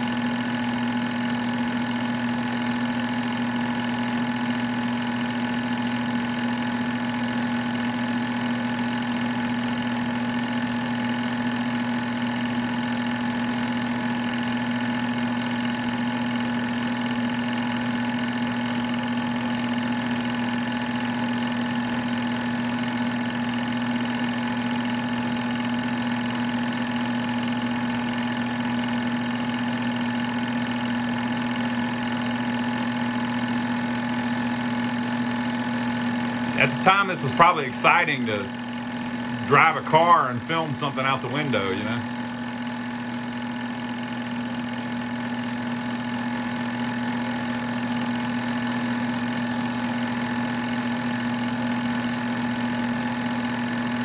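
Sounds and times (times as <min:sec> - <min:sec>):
movie projector whirring: 0:00.0 - 0:54.0.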